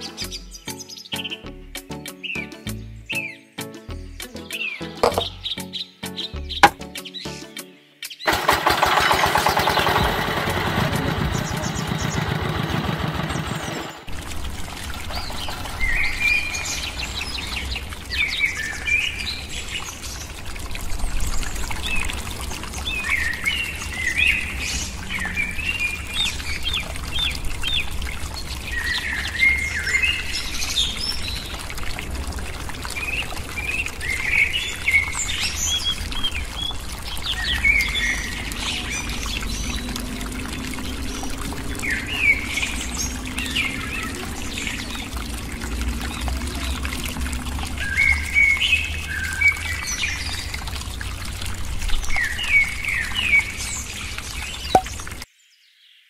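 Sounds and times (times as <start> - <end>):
water pouring and trickling: 0.0 - 3.3, 4.0 - 7.4, 8.1 - 55.3.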